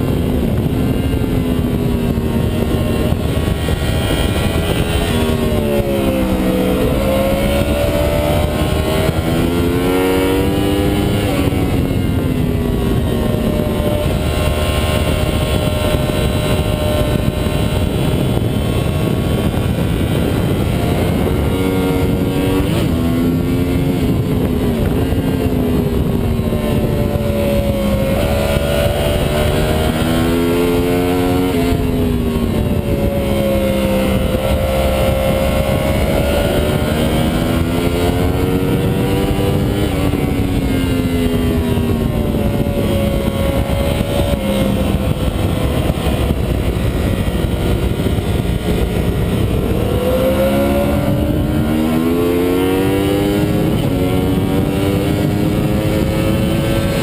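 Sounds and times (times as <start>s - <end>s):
heavy wind noise: 0.0s - 57.0s
motorcycle engine revving: 0.0s - 57.0s.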